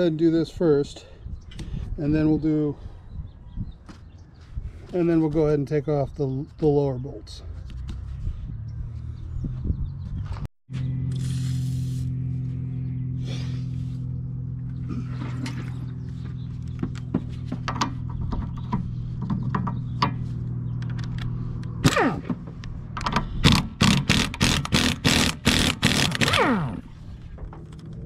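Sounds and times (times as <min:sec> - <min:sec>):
low mechanical hum: 0:00.2 - 0:28.0.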